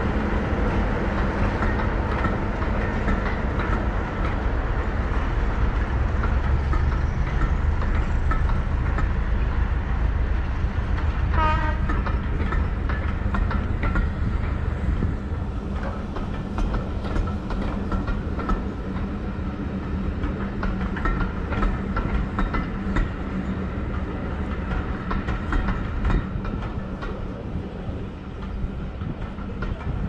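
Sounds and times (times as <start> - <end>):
wheels clicking over rail joints: 0.2 - 30.0.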